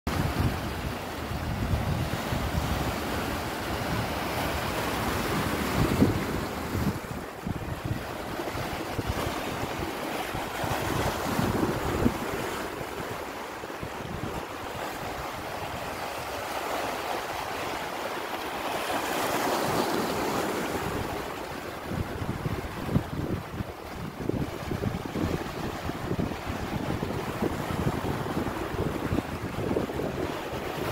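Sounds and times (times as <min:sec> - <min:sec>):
wind gusting on microphone: 0:00.1 - 0:16.6, 0:20.4 - 0:30.9
sea surf washing over rocks: 0:00.1 - 0:30.9.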